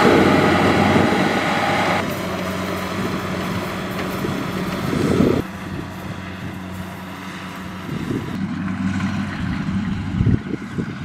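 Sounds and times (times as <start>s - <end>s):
combine harvester engine running: 0.0s - 11.0s.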